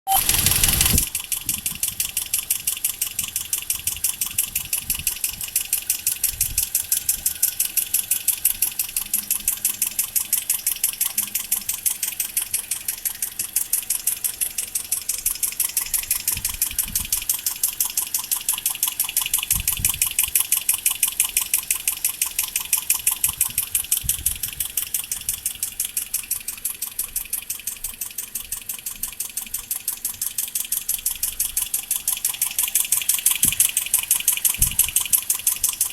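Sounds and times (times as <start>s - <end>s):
car engine idling: 0.1s - 35.9s
rapid engine ticking: 0.1s - 35.9s.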